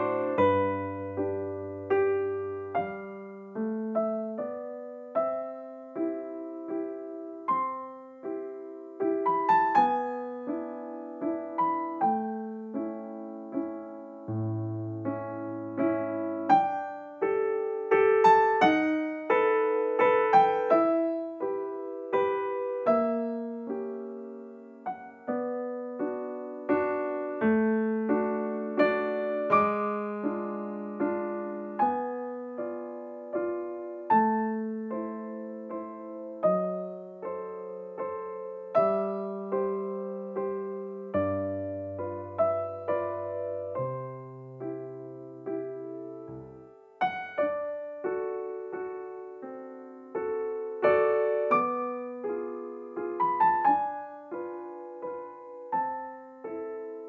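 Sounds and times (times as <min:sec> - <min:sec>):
gentle piano music: 0:00.0 - 0:57.0.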